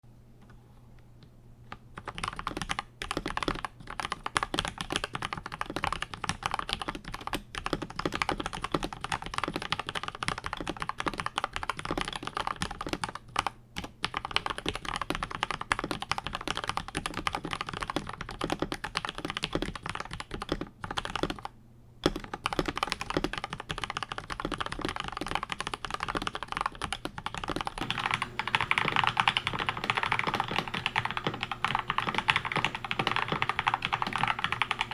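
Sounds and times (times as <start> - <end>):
mechanical keyboard typing: 1.9 - 34.9.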